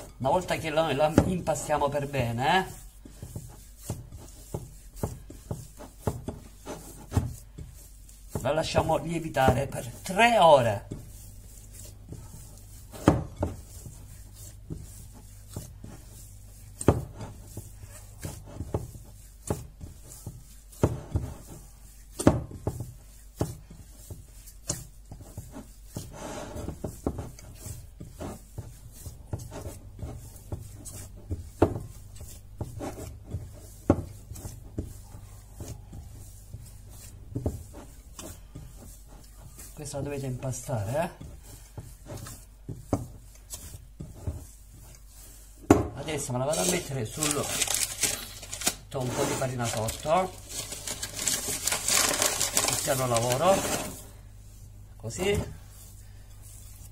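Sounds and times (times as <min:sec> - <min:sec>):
hands kneading dough: 0:00.0 - 0:56.9.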